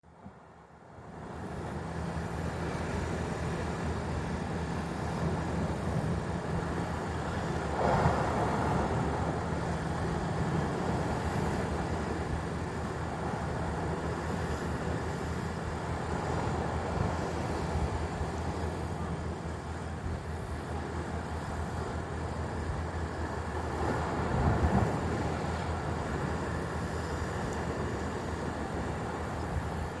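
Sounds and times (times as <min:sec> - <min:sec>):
waves breaking: 0:01.1 - 0:30.0
wind rumbling on microphone: 0:01.1 - 0:30.0.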